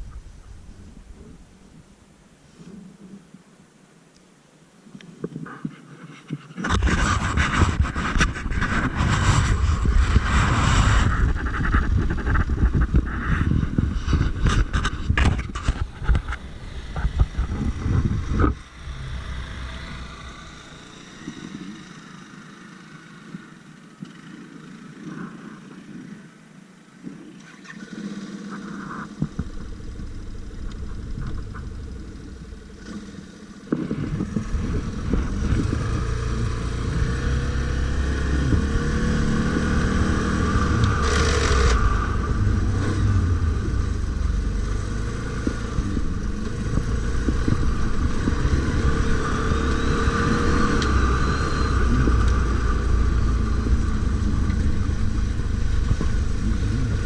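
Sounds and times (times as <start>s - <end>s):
atv engine revving: 6.6s - 25.0s, 27.5s - 57.0s.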